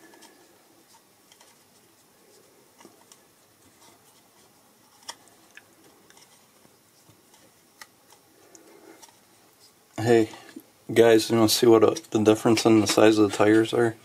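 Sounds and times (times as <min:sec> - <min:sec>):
scratchy handling noise: 0:00.0 - 0:13.8.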